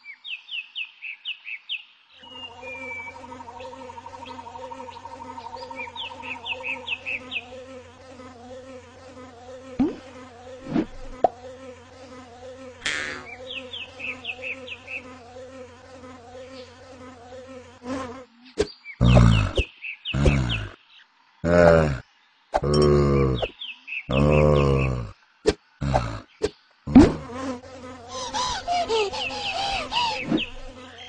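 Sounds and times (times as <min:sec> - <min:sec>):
birds chirping: 0:00.1 - 0:31.0
fly buzzing: 0:02.2 - 0:20.8, 0:21.4 - 0:22.0, 0:22.6 - 0:23.5, 0:24.1 - 0:31.0.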